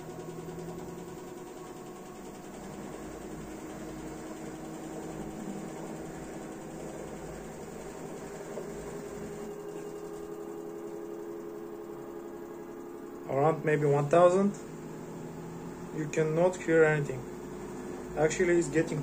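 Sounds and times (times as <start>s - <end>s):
washer drum spinning with whine: 0.0s - 19.0s.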